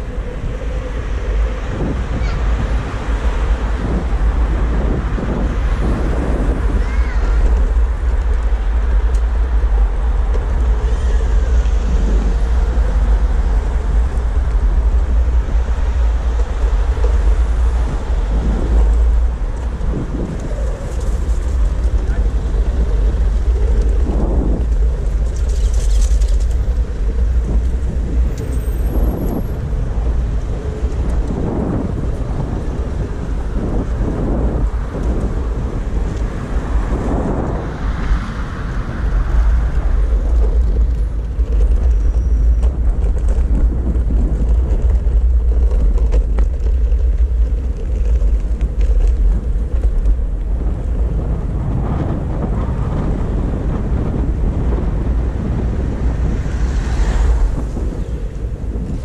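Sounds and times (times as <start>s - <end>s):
road traffic passing: 0.0s - 59.0s
wind buffeting microphone: 0.0s - 59.0s.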